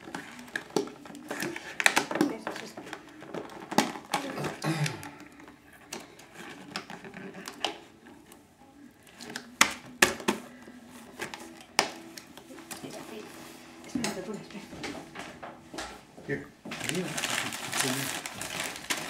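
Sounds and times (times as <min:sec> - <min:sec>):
hands handling packaging: 0:00.0 - 0:19.0.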